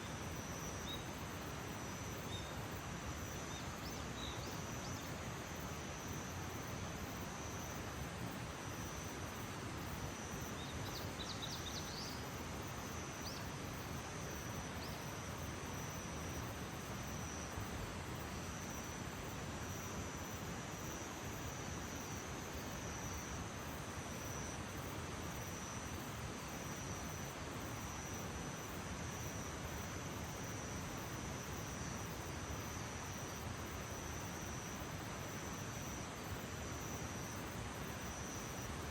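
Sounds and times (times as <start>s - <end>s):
low hiss: 0.0s - 38.9s.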